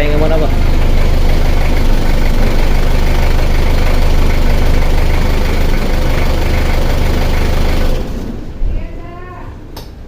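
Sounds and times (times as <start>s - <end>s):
diesel engine idling: 0.0s - 8.6s.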